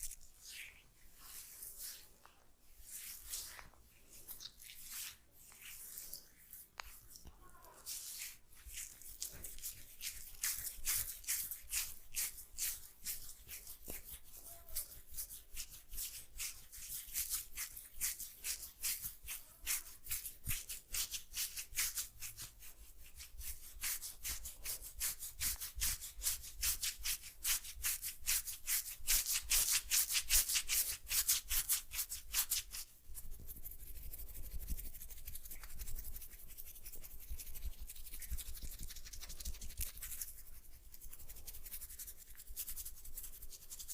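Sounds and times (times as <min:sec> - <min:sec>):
hands rubbing hair: 0:00.0 - 0:43.9.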